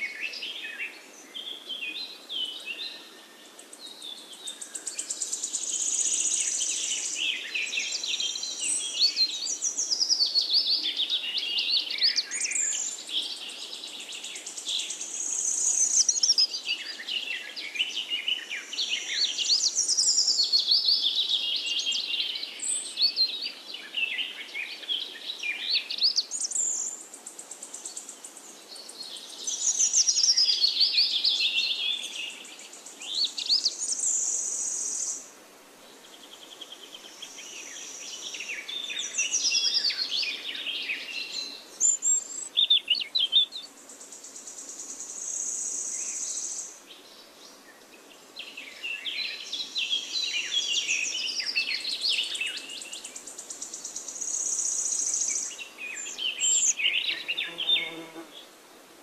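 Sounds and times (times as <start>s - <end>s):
songbird singing: 0.0s - 58.6s.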